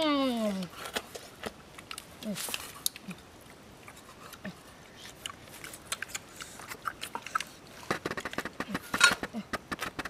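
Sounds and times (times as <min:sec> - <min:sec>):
people chewing crunchy pork: 0:00.7 - 0:08.8.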